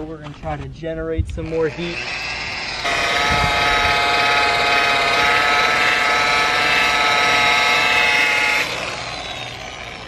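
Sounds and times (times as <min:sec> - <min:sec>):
rotary polisher motor whine: 0:01.7 - 0:10.0.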